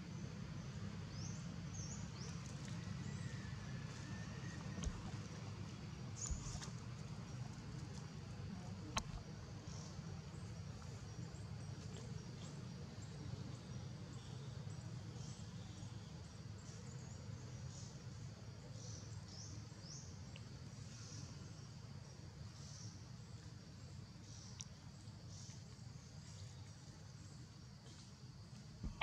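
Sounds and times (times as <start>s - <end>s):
faint high insect-like tone: 0.0s - 29.0s.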